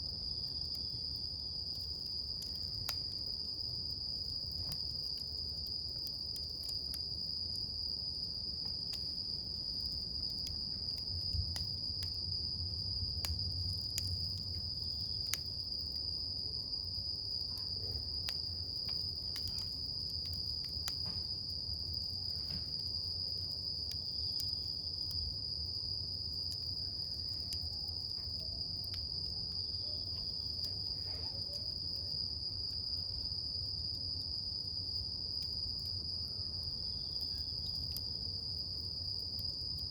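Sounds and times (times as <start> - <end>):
campfire crackling: 0.0 - 39.9
crickets trilling: 0.0 - 39.9.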